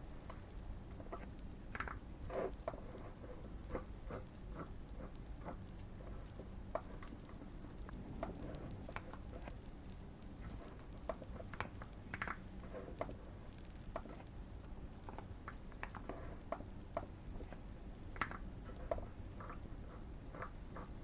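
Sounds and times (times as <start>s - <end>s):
fireplace crackling: 0.0s - 21.0s.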